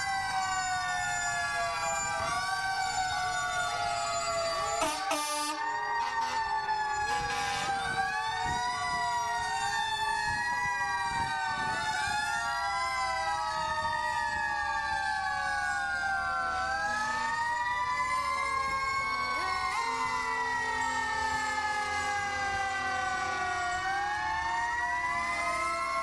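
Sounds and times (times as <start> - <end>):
fire truck sirens wailing: 0.0 - 26.0.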